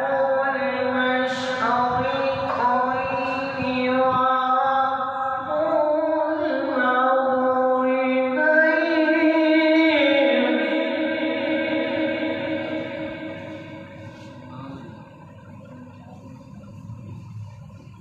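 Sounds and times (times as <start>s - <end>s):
man chanting melodically: 0.0s - 15.5s.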